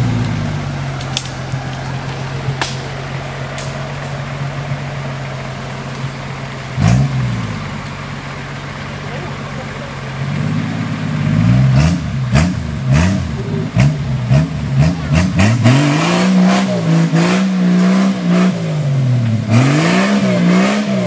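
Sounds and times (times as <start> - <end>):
engine revving: 0.0 - 21.0.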